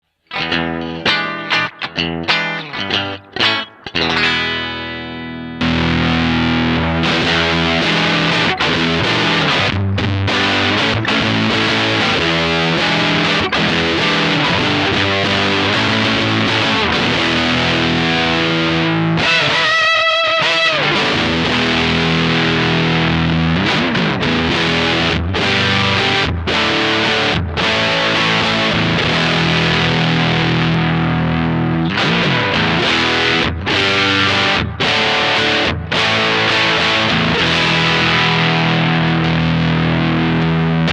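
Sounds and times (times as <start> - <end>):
distorted electric guitar: 0.0 - 40.9.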